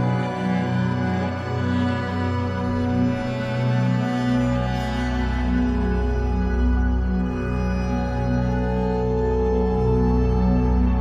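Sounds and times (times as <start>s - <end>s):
slow ambient music tones: 0.0s - 11.0s.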